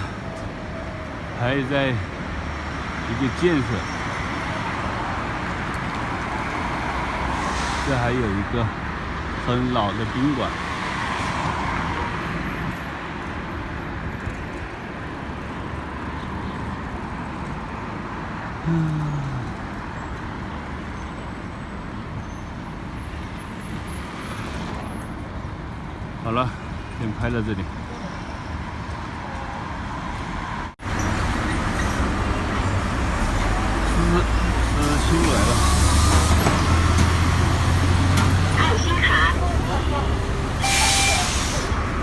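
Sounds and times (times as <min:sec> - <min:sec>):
bus engine: 0:00.0 - 0:42.0
city street traffic: 0:00.0 - 0:42.0
passing cars rumbling: 0:00.0 - 0:42.0.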